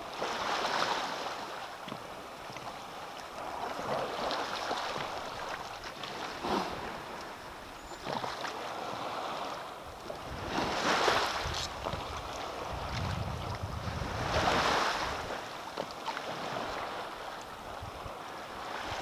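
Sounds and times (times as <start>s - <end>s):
water sloshing and lapping: 0.0s - 19.0s
short water splashes: 0.1s - 17.8s.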